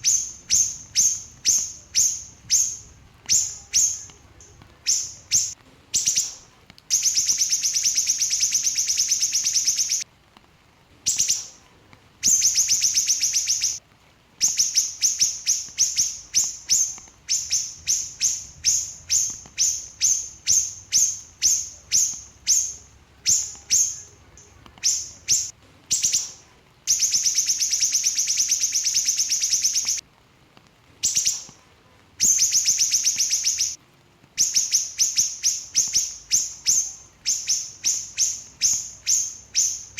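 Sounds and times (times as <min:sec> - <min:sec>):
small bird trilling and chirping: 0:00.0 - 0:10.0, 0:11.1 - 0:11.6, 0:12.2 - 0:13.8, 0:14.4 - 0:30.0, 0:31.0 - 0:31.6, 0:32.2 - 0:33.8, 0:34.4 - 0:39.9.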